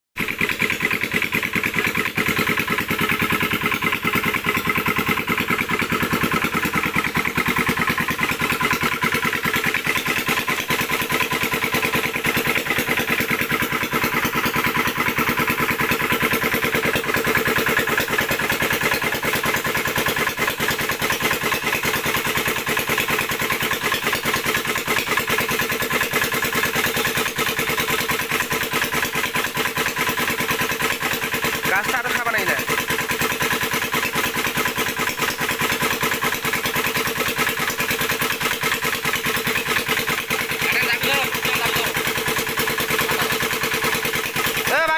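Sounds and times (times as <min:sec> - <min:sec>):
engine chugging: 0:00.2 - 0:44.9.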